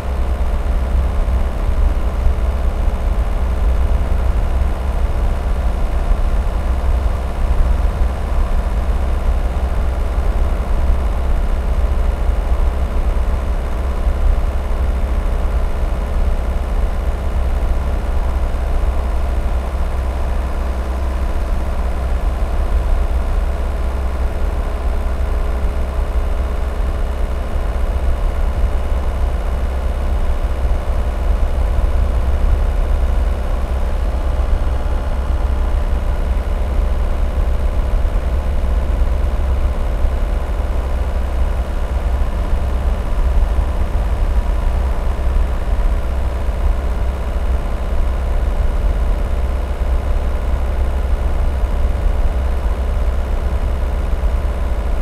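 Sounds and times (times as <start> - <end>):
faint engine hum: 0.0 - 55.0.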